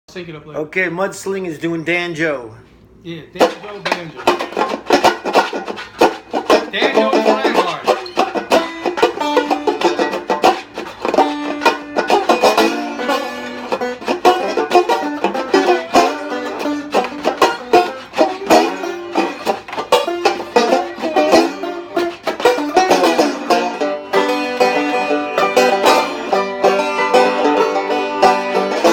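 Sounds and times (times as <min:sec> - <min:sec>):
banjo picking: 0:03.4 - 0:28.9.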